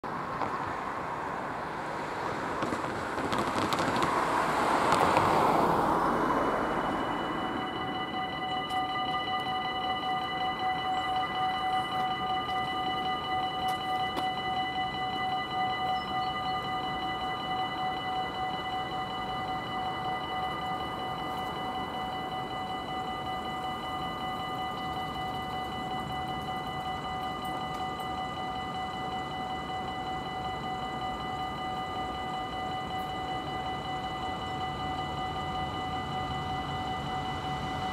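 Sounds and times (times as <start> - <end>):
car approaching: 0.0 - 37.9
outdoor background noise: 0.0 - 37.9
level crossing warning bell ringing: 3.4 - 37.9.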